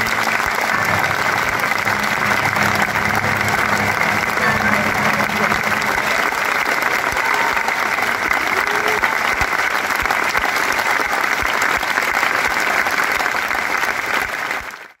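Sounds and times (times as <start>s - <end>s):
voices in crowd: 0.0s - 12.9s
audience applauding: 0.0s - 15.0s.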